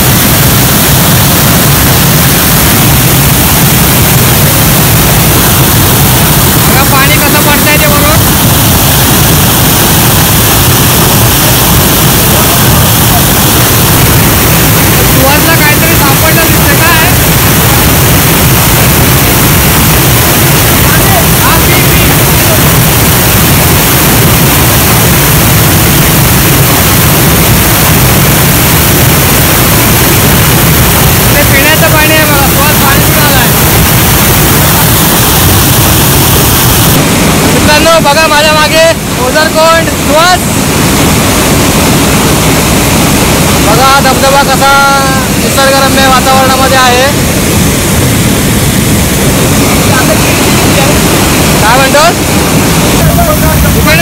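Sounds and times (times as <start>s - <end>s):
waterfall crashing onto rocks: 0.0s - 54.0s.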